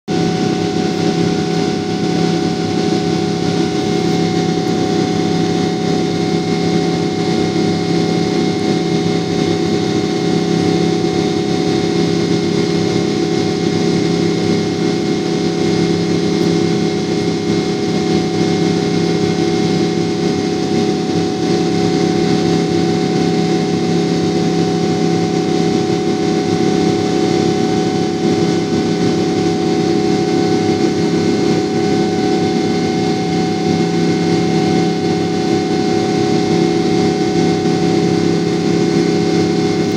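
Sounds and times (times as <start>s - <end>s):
jet engines and airflow rush: 0.1s - 39.9s
steady whining tones: 0.1s - 39.9s.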